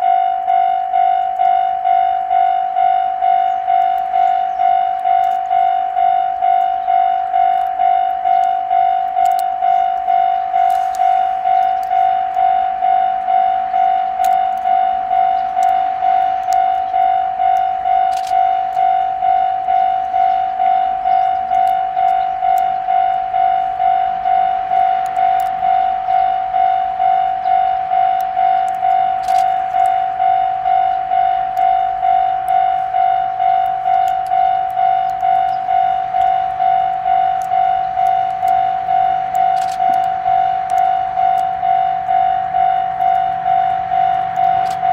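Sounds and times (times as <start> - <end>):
level crossing alarm ringing: 0.0 - 44.9.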